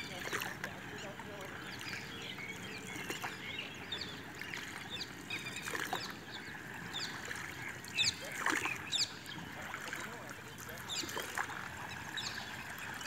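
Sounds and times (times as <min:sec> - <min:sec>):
birds chirping: 0:00.0 - 0:13.0
water splashing around canoe: 0:00.0 - 0:13.0.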